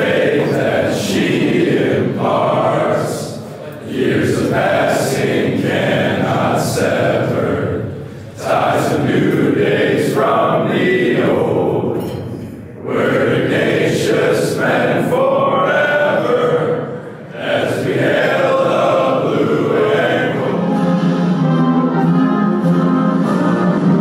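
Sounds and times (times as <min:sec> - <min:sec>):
group of boys singing: 0:00.0 - 0:12.0, 0:12.8 - 0:21.3.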